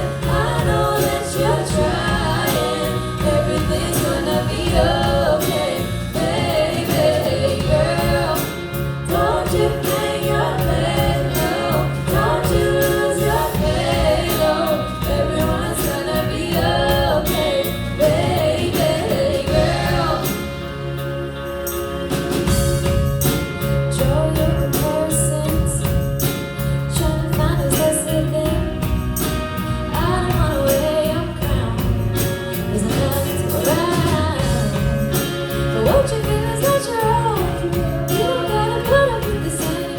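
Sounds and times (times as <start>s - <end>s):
instrumental backing: 0.0s - 39.9s.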